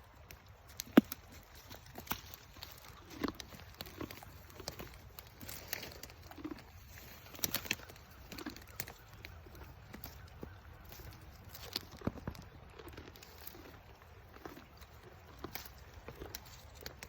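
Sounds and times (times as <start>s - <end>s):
donkeys chewing vines: 0.0s - 17.0s.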